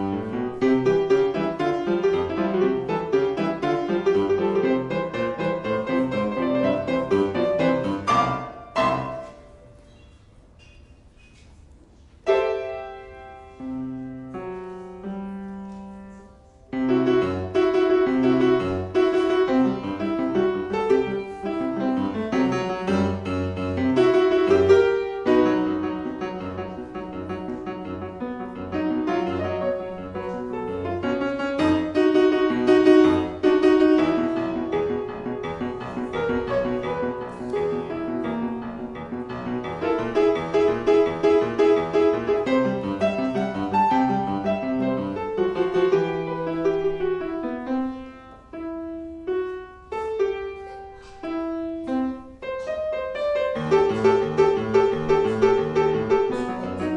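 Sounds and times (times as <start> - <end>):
solo grand piano playing: 0.0 - 56.9.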